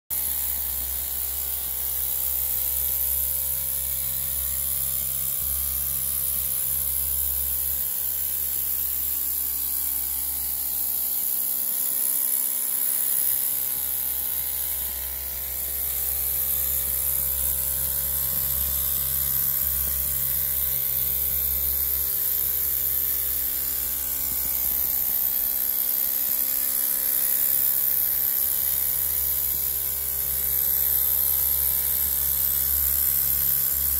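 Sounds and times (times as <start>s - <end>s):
small steam engine buzzing: 0.1s - 33.9s.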